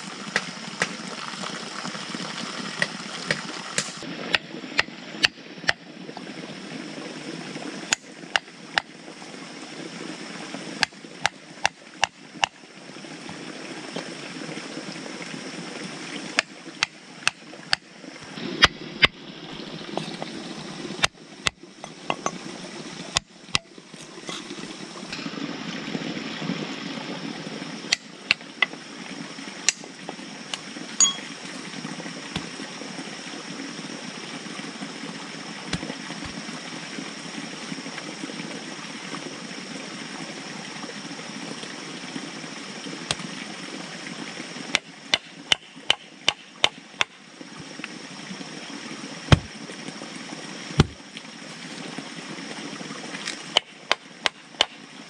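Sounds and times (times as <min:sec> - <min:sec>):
running water hissing: 0:00.0 - 0:55.0.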